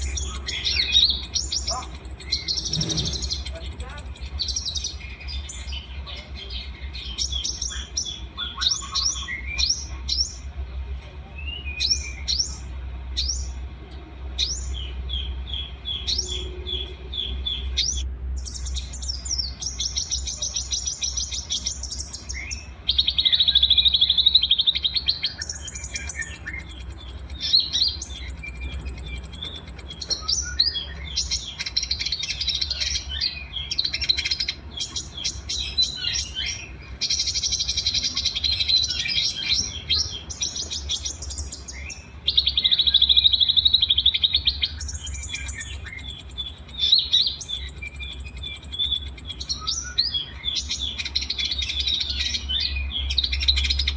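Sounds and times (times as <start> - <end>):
buzzy bird trill: 0.0 - 10.6, 14.4 - 53.9
songbirds singing: 0.0 - 53.9
steady low hum: 0.0 - 53.9.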